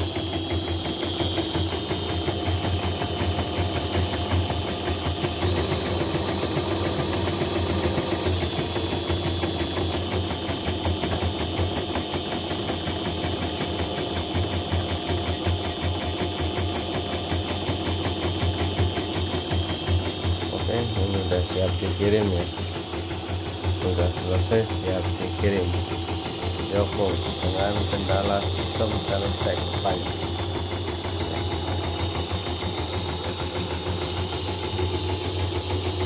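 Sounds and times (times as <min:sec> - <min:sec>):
embroidery machine needle stitching: 0:00.0 - 0:36.0
motor hum: 0:00.0 - 0:36.0.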